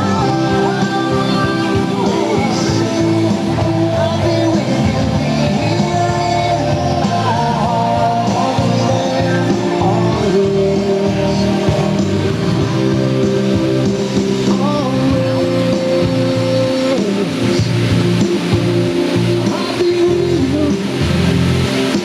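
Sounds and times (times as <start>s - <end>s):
guitar music: 0.0s - 22.0s
person singing: 0.0s - 22.0s.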